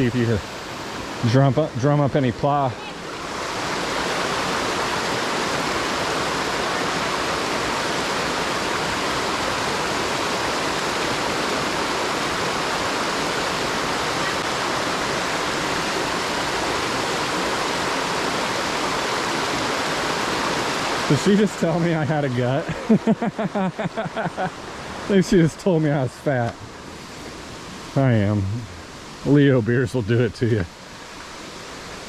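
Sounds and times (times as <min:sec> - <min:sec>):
waterfall splashing into pool: 0:00.0 - 0:26.6.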